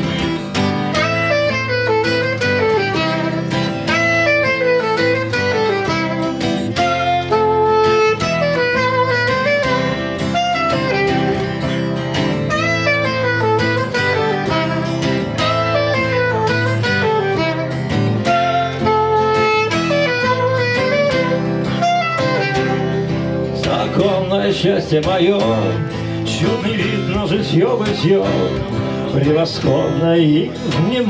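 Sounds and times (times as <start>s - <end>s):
acoustic guitar strumming: 0.0s - 31.0s
guitar melody: 0.0s - 31.0s.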